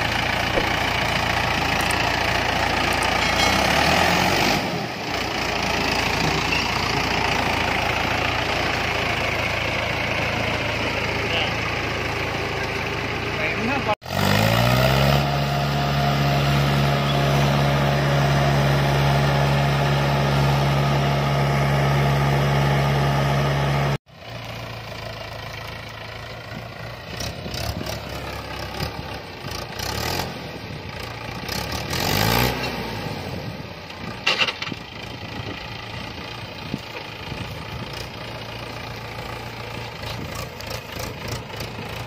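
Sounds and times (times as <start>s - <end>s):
tractor diesel engine revving: 0.0s - 42.0s.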